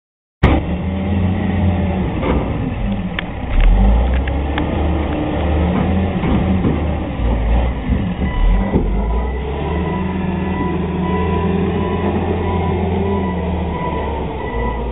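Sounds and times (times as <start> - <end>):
heavy truck engine running: 0.5 - 14.9.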